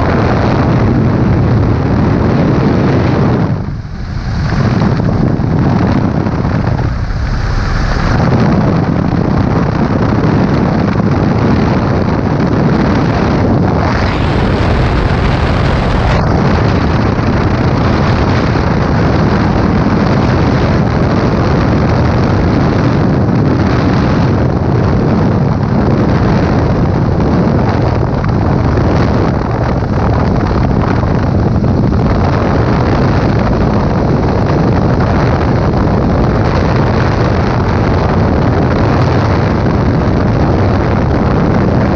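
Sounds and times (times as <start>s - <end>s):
light aircraft engine and propeller: 0.0s - 41.9s
wind buffeting microphone: 0.0s - 41.9s.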